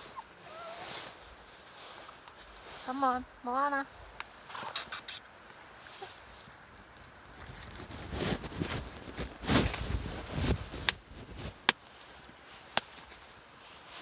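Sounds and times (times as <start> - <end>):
rustling and crunching movement: 0.0 - 14.0.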